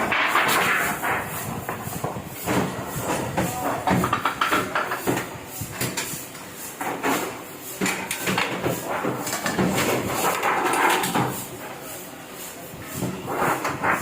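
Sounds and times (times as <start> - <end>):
printing press clattering: 0.0 - 12.0, 12.9 - 14.0.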